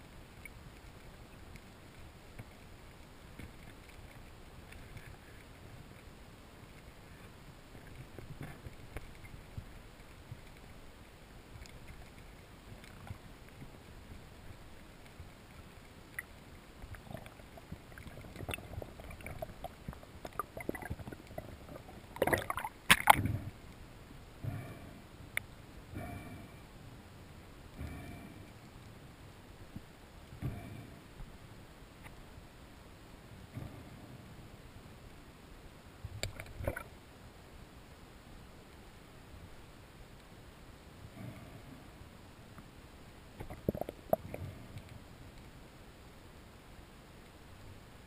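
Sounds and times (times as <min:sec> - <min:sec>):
faint clicks and crackles: 0:00.0 - 0:35.3, 0:36.0 - 0:37.0, 0:38.6 - 0:45.7
low rumble of moving water: 0:00.0 - 0:48.0
underwater background hiss: 0:00.0 - 0:48.0.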